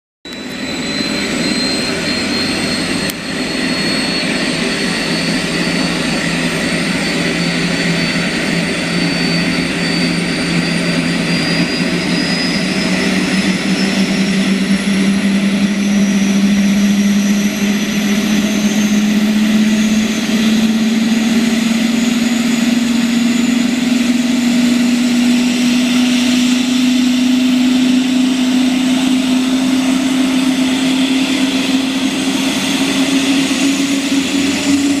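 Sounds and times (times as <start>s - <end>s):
helicopter turbine whine rising: 0.3s - 35.0s
low engine hum: 0.3s - 35.0s.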